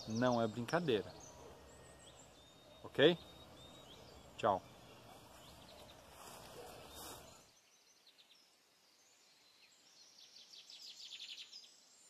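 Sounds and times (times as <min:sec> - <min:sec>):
faint birdsong trills: 0:00.0 - 0:12.0.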